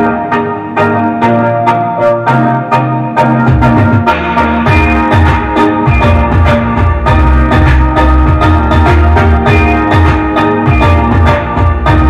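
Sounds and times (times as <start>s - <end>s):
keyboard-led music with steady beat: 0.0s - 12.0s.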